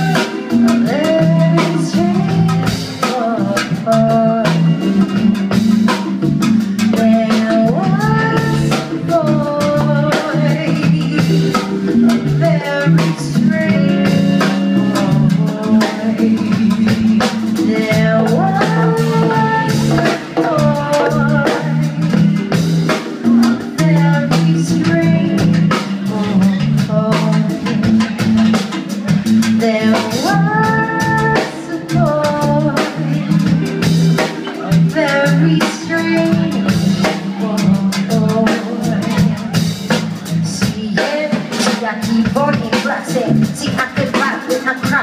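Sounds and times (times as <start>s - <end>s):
gliding lead melody: 0.0s - 40.5s
bass line: 0.0s - 45.0s
drum kit beat: 0.0s - 45.0s
live band playing: 0.0s - 45.0s.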